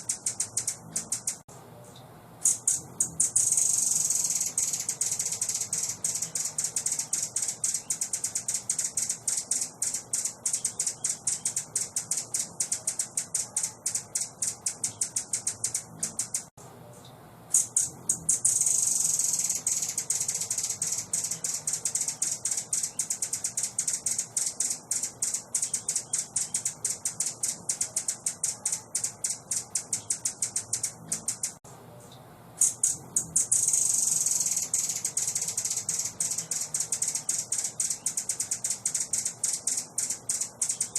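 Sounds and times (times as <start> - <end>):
songbird chattering song: 0.0 - 40.9.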